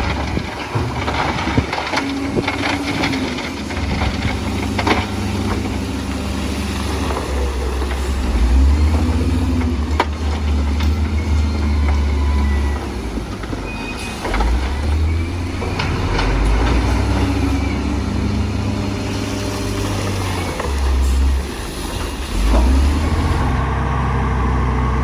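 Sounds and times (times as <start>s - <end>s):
diesel machinery engine drone: 0.0s - 25.0s.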